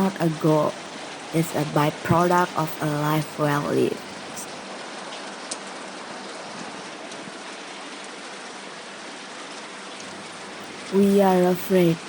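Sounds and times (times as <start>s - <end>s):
steady rain patter: 0.0s - 12.0s.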